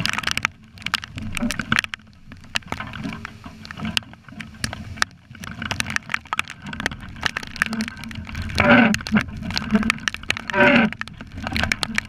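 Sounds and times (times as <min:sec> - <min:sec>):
heavy rain: 0:00.0 - 0:12.0
raindrops ticking on camera housing: 0:00.0 - 0:12.0.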